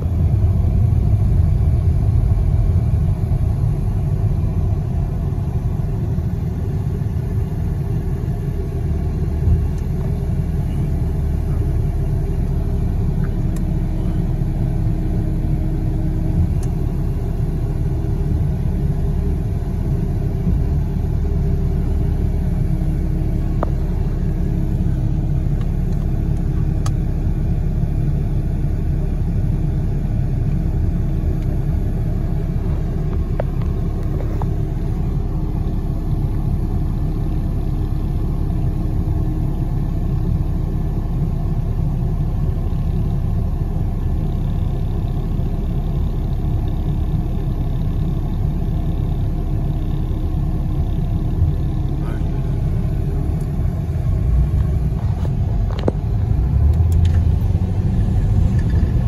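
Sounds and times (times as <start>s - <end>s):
car engine running in cabin: 0.0s - 59.0s.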